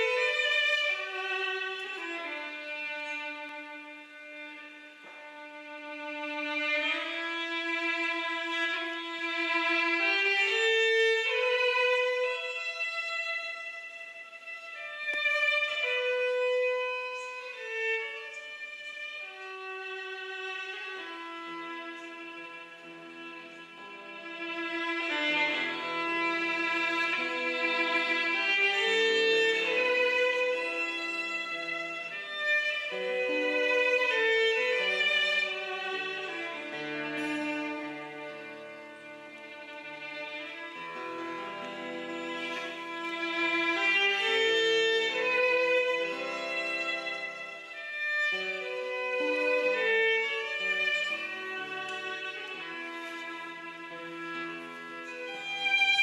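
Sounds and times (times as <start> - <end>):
slow violin melody: 0.0 - 56.0.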